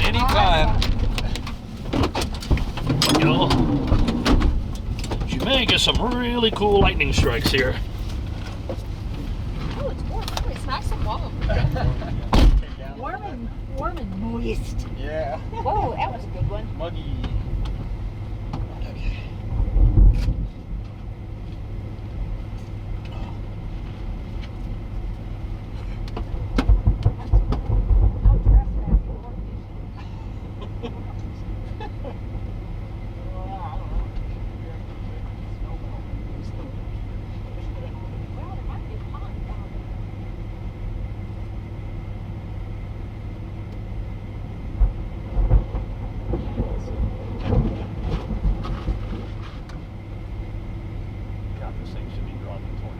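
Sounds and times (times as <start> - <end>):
vehicle cabin rumble: 0.0 - 52.9.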